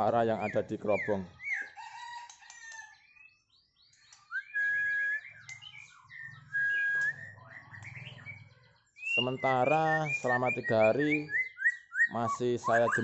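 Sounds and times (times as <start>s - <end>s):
bird singing whistled phrases: 0.3s - 1.8s, 3.1s - 13.0s
long level bird whistles: 0.4s - 13.0s.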